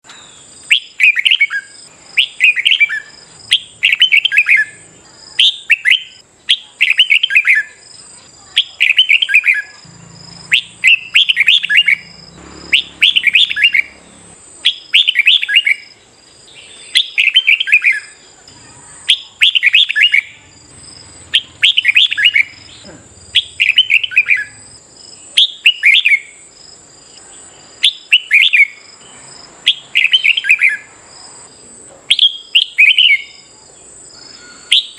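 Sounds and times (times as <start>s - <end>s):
bird singing warbled phrases: 0.0s - 31.5s, 32.1s - 34.9s.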